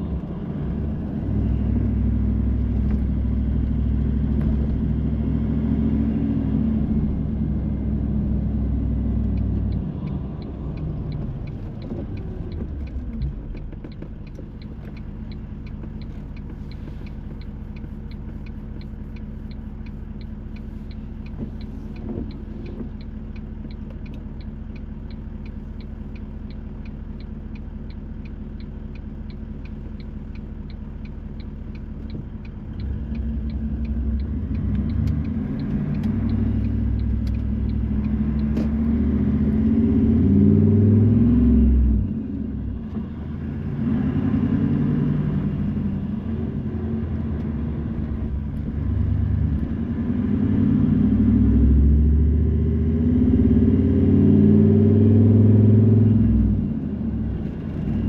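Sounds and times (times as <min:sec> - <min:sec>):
car engine and road rumble: 0:00.0 - 0:58.0
turn signal ticking: 0:00.0 - 0:58.0.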